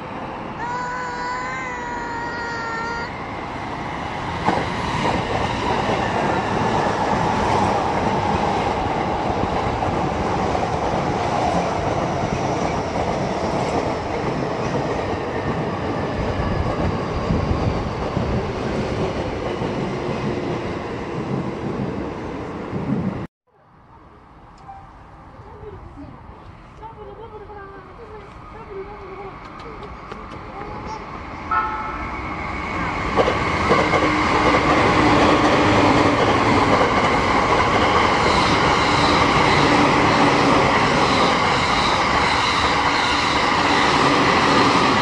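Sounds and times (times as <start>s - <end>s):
train wheels rumbling on rails: 0.6s - 23.3s, 27.3s - 45.0s.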